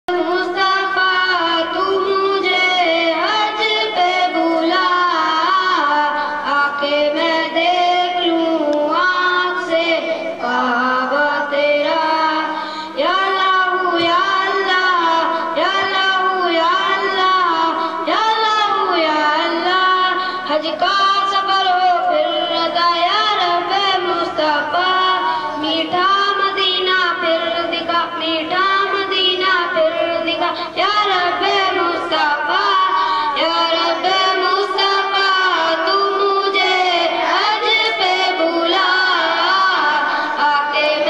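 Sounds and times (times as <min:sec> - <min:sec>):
boy singing into a microphone: 0:00.1 - 0:41.0.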